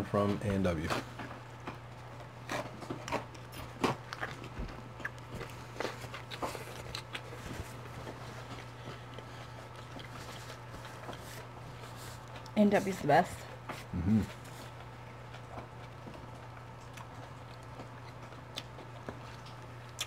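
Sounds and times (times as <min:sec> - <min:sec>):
steady low hum: 0:00.0 - 0:20.0
person chewing burger: 0:00.7 - 0:12.6, 0:13.5 - 0:20.0.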